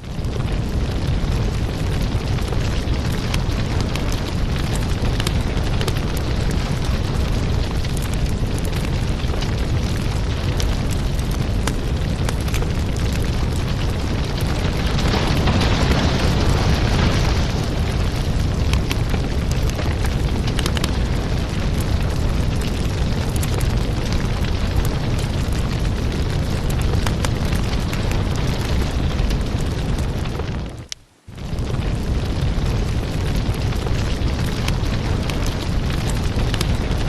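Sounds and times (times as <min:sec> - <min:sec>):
logs crackling and popping: 0:00.0 - 0:37.0
low rumble of flames: 0:00.0 - 0:37.0.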